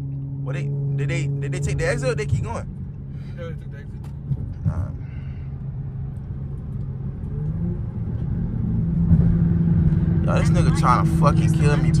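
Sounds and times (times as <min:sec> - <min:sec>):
car engine accelerating: 0:00.0 - 0:12.0
road noise in car cabin: 0:00.0 - 0:12.0.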